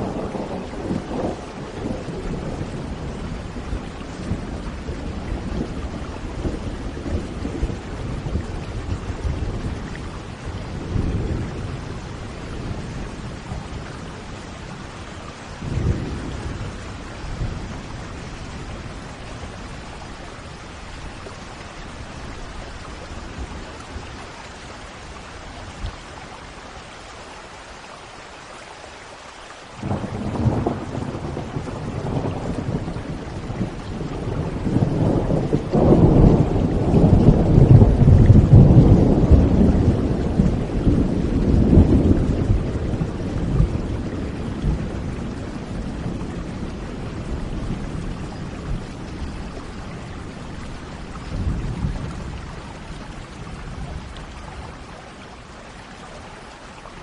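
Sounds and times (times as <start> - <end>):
thunder rumbling: 0.0 - 24.3, 29.8 - 54.9
rain falling: 0.0 - 57.0.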